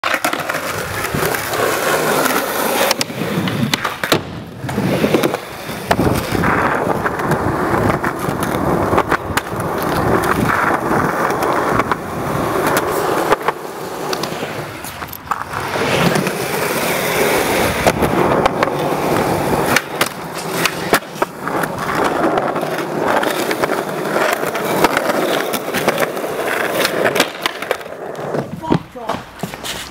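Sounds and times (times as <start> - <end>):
skateboard clacking: 0.0 - 29.9
skateboard wheels rolling on concrete: 0.0 - 29.9.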